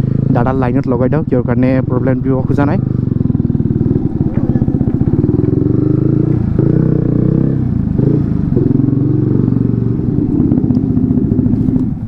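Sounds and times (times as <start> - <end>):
loud motorcycle engine thumping: 1.6 - 12.0.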